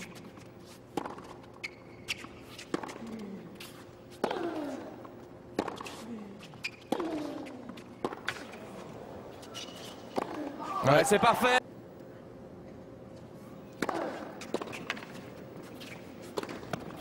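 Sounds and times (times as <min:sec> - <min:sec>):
racket hitting tennis ball: 0:00.0 - 0:10.7, 0:13.8 - 0:17.0.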